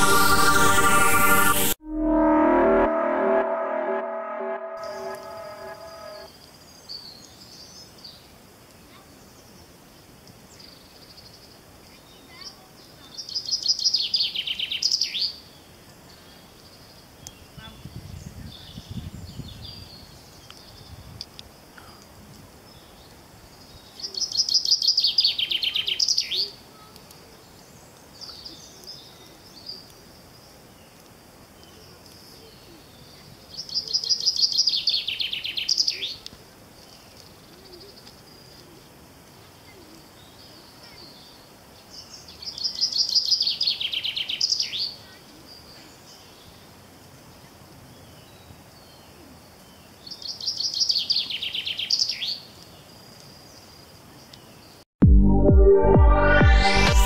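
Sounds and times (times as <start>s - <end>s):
outdoor background hiss: 6.2s - 54.9s.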